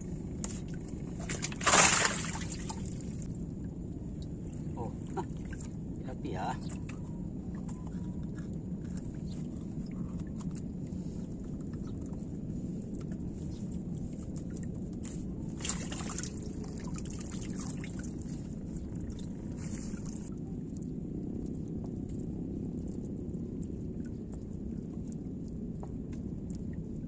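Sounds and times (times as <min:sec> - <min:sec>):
steady low rumble: 0:00.0 - 0:27.0
water trickling and sloshing: 0:00.0 - 0:27.0.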